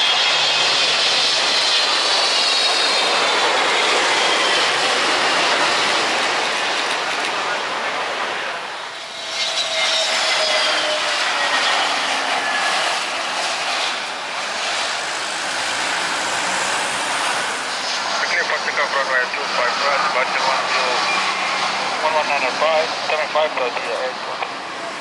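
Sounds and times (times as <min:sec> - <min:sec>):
jet airliner engine roar: 0:00.0 - 0:25.0.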